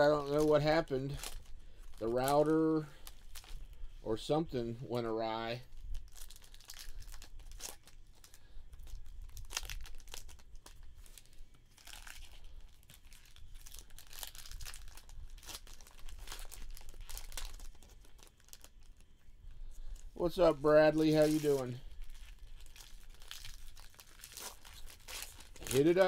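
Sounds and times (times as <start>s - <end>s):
foil wrappers tearing and crinkling: 0.0s - 3.9s, 4.5s - 26.0s.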